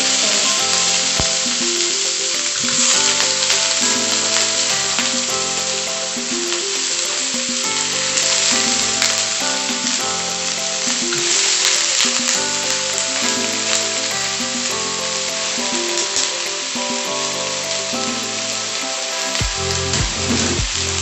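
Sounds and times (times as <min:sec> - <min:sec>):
background music: 0:00.0 - 0:21.0
vegetables sizzling in hot oil: 0:00.0 - 0:21.0.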